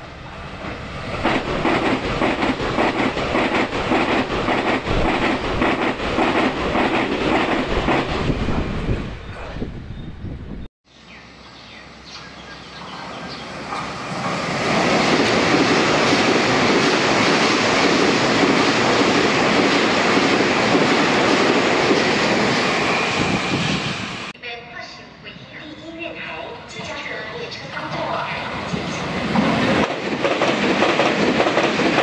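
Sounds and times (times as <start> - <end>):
train passing at high speed: 0.0 - 10.6, 11.2 - 24.4, 26.2 - 32.0.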